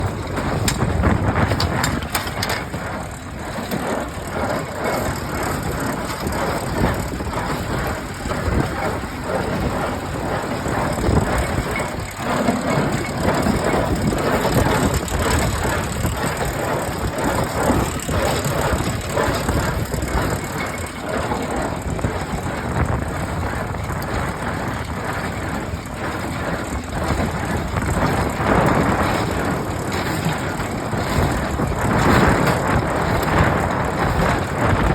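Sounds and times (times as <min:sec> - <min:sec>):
baler mechanical clatter: 0:00.0 - 0:34.9.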